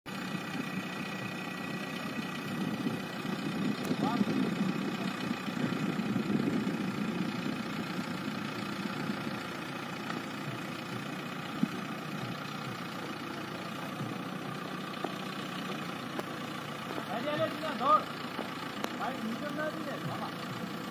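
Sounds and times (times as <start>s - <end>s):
diesel engine running: 0.1s - 20.9s.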